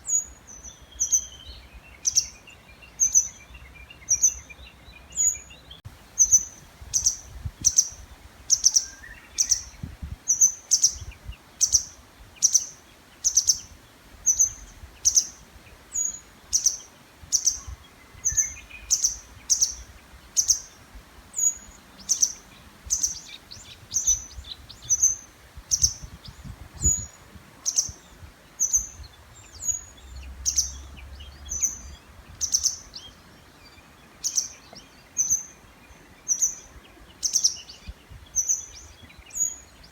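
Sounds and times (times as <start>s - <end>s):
faint birdsong: 0.0s - 39.9s
songbird high-pitched call: 0.0s - 39.9s.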